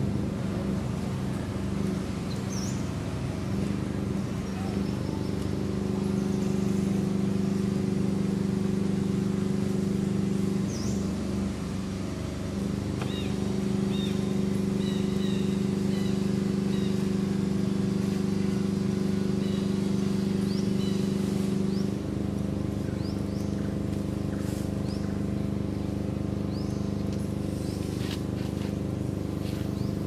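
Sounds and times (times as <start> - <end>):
low motor hum: 0.0 - 30.0.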